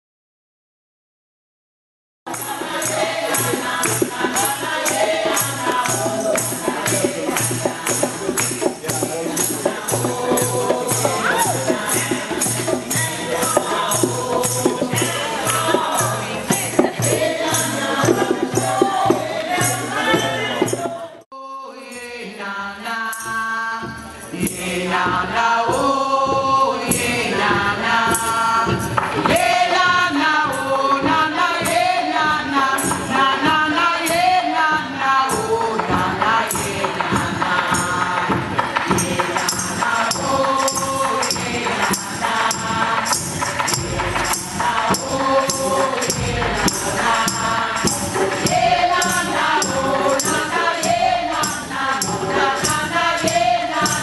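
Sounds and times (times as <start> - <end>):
hand drums: 2.3 - 21.2, 23.8 - 54.0
jingling percussion: 2.3 - 21.2, 21.8 - 54.0
women singing together: 2.3 - 54.0.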